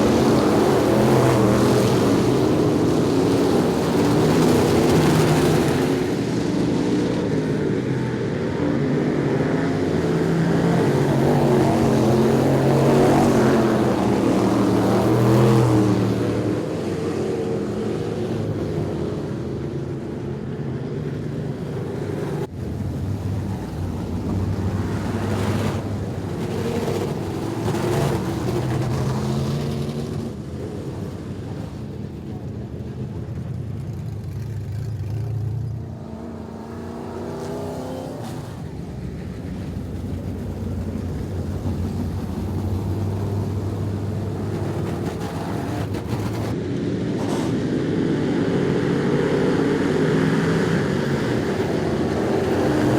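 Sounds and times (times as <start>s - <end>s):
race car engines passing: 0.0s - 52.9s.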